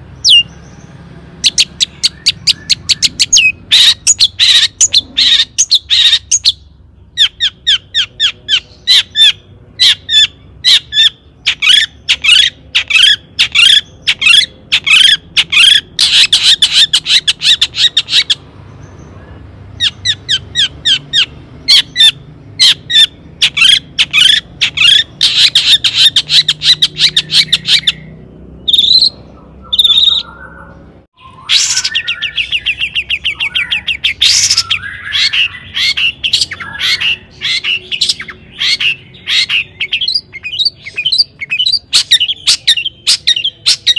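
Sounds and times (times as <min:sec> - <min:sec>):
shrike singing: 0:00.0 - 0:43.9.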